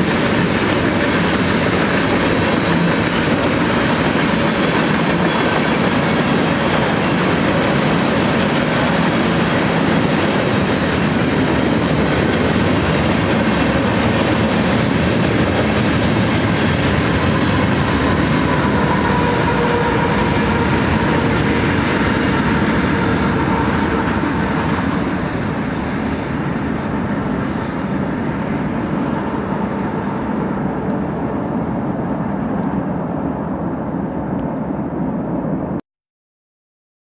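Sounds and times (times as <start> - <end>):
train wheels rumbling on rails: 0.0 - 35.8.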